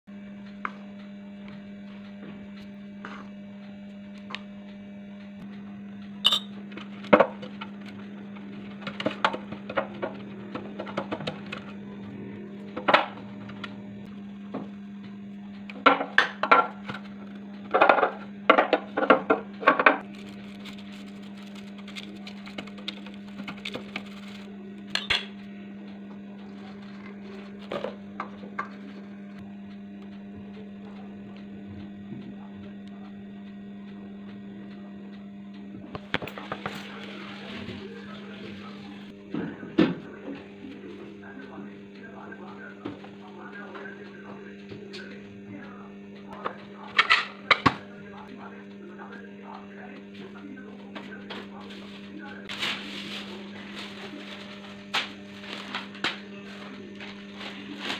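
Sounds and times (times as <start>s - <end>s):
steady low hum: 0.1s - 57.9s.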